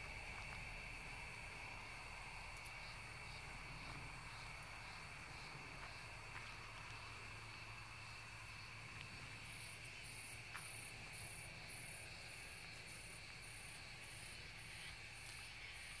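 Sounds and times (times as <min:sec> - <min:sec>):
cricket chirping pulses: 0:00.0 - 0:16.0
cricket trilling: 0:00.0 - 0:16.0.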